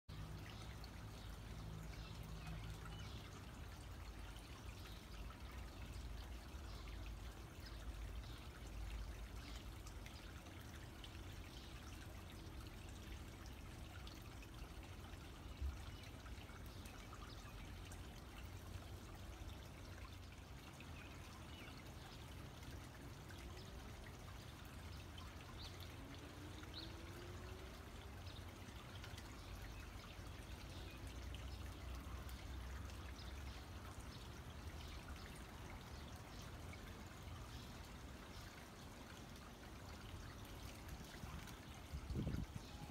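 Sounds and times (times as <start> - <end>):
water trickling: 0.1 - 42.9.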